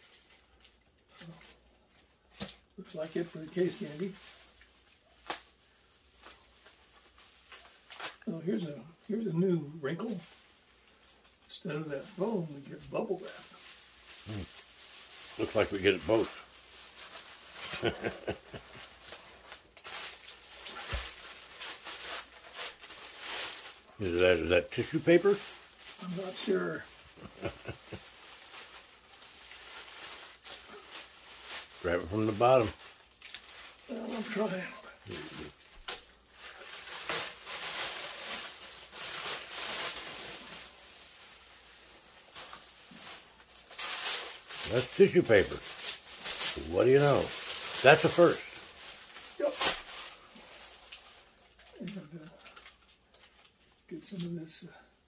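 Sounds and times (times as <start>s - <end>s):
bubble wrap crinkling: 0.0s - 55.0s.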